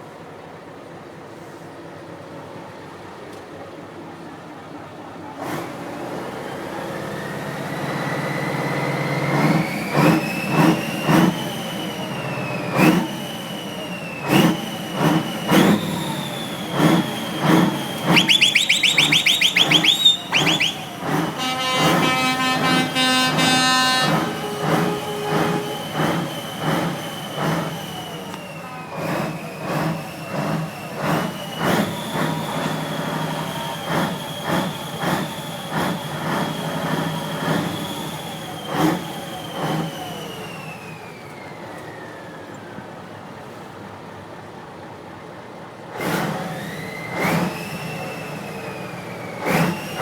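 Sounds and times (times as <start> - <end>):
diesel engine revving: 5.2 - 50.0.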